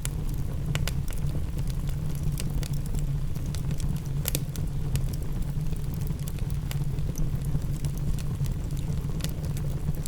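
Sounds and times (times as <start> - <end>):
fire popping: 0.0 - 10.0
wood fire crackling: 0.0 - 10.0.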